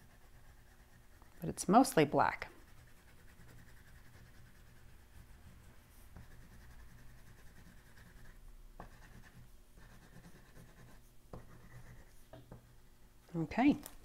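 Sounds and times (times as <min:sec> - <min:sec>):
oil pastel scratching on paper: 0:00.0 - 0:12.8.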